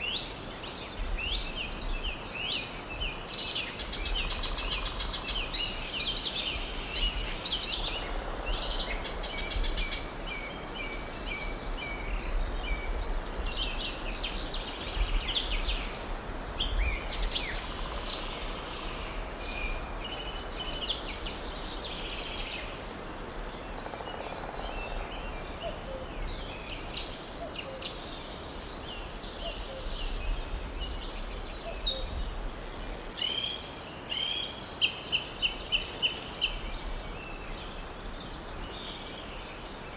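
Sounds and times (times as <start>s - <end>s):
birds chirping and trilling: 4.0s - 39.9s.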